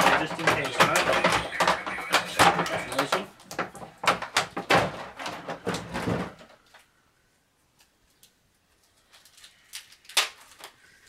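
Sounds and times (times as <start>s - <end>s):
plastic toys clattering: 0.0s - 6.9s, 8.2s - 10.8s.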